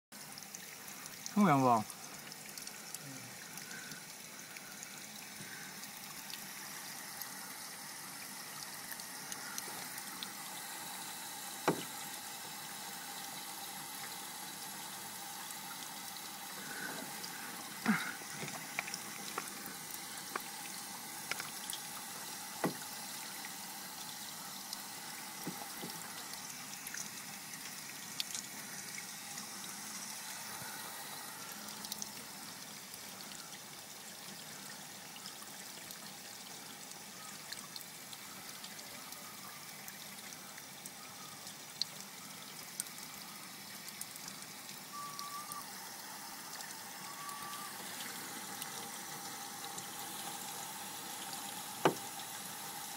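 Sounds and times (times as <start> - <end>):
water trickling: 0.1 - 52.9
small drips: 0.2 - 52.9.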